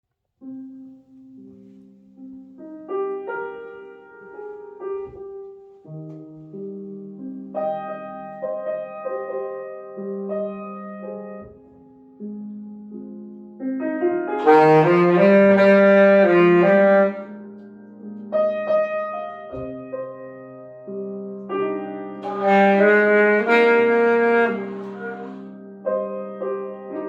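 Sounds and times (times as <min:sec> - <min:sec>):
solo piano jazz chords: 0:00.4 - 0:27.0.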